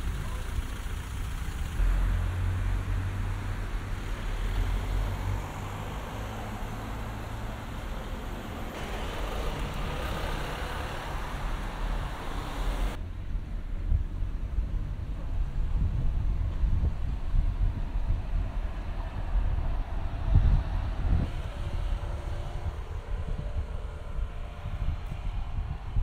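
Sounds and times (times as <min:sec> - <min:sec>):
hiss of passing traffic: 0:00.0 - 0:26.0
low engine rumble of traffic: 0:00.0 - 0:26.0.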